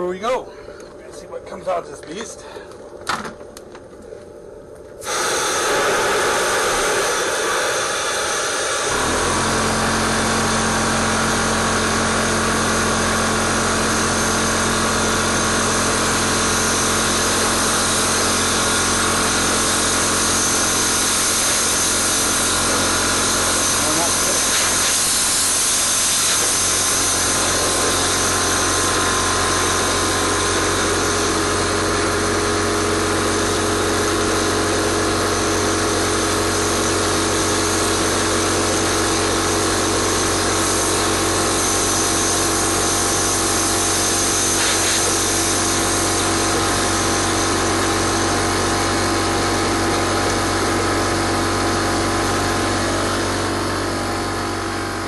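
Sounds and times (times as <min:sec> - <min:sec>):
air compressor running: 0:04.1 - 0:55.0
dryer blower running: 0:05.0 - 0:55.0
rotary cleaning tool running: 0:05.0 - 0:55.0.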